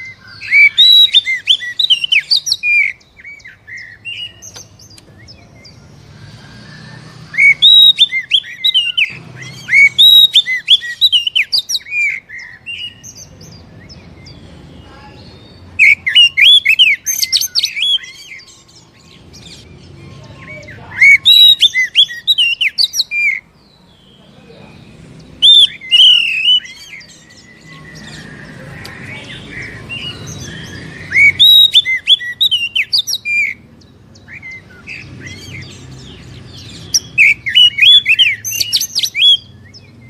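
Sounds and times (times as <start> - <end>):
magpie-robin singing: 0.0 - 40.0.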